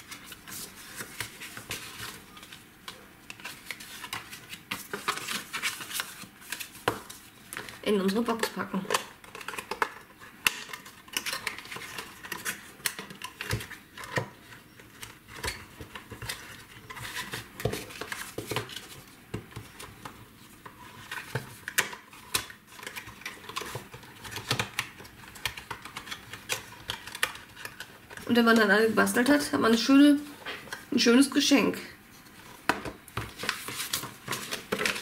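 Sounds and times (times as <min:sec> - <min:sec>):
plastic box and card handled: 0:00.0 - 0:29.4, 0:32.2 - 0:35.0.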